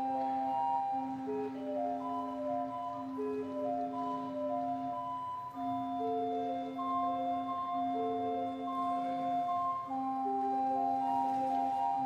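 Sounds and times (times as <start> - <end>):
church organ melody: 0.0 - 12.0.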